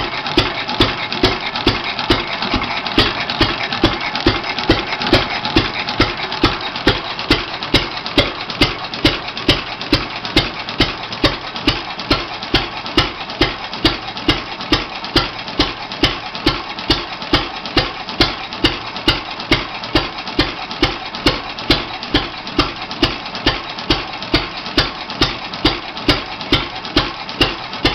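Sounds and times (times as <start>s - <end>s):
stationary engine exhaust beating: 0.0s - 27.9s
valve gear clatter: 0.0s - 27.9s.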